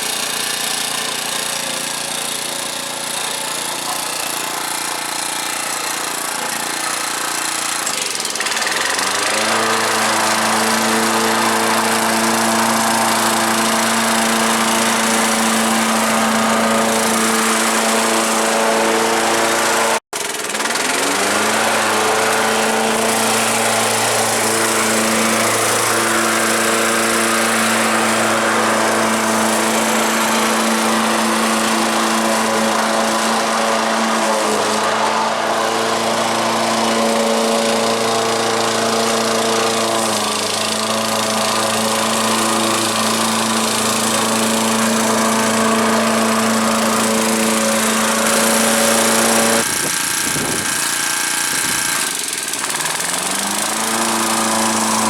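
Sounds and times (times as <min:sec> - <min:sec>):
lawnmower engine running: 0:00.0 - 0:55.0.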